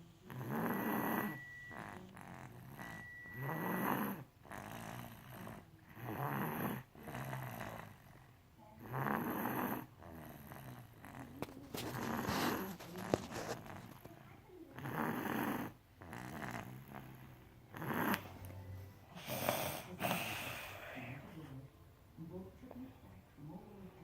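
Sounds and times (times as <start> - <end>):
soft breaths: 0.0 - 24.0
loud rasping snore: 0.2 - 14.0, 14.7 - 18.4, 19.2 - 21.2.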